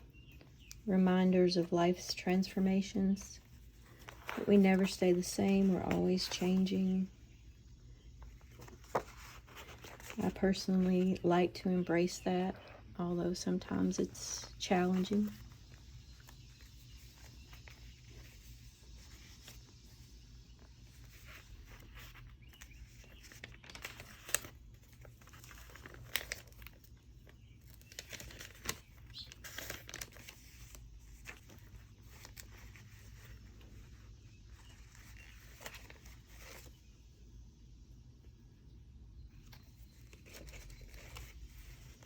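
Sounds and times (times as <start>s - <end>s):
low steady hum: 0.0s - 42.0s
paper rustling and crinkling: 1.6s - 7.1s, 7.9s - 13.0s, 13.7s - 37.0s, 39.4s - 42.0s.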